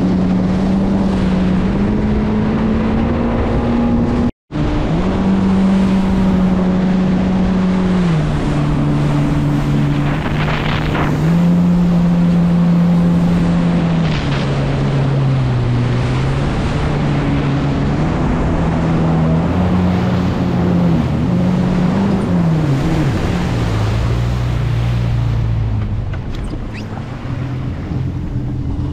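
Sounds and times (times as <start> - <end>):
motorboat engine running: 0.0 - 28.9
rushing water: 0.0 - 28.9
wind on the microphone: 0.0 - 28.9.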